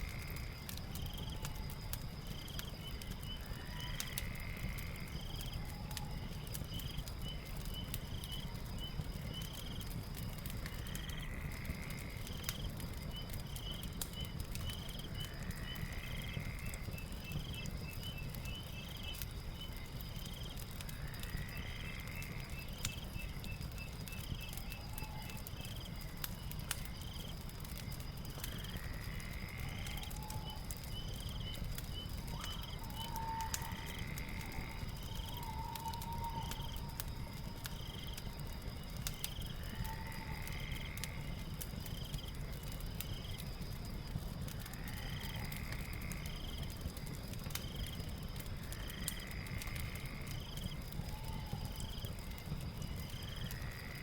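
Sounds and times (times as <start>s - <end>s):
fireplace crackling: 0.0s - 54.0s.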